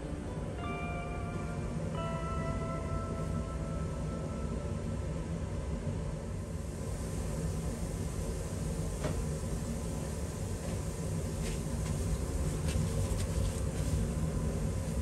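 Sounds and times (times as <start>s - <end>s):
ventilation rumble: 0.0s - 15.0s.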